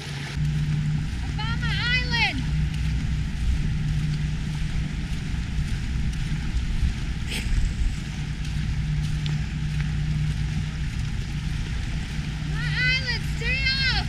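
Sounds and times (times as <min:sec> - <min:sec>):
constant low hum: 0:00.0 - 0:14.0
wind rumble on microphone: 0:00.0 - 0:14.0.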